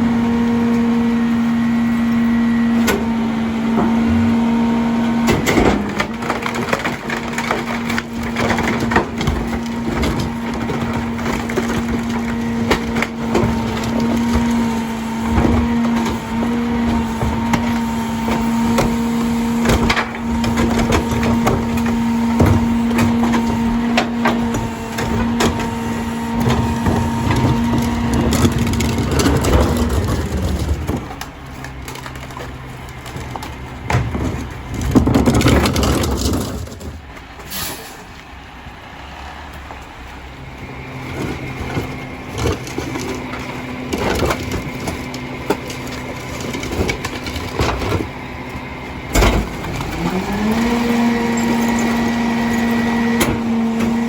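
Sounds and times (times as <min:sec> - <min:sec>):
truck engine and hydraulic pump: 0:00.0 - 0:54.0.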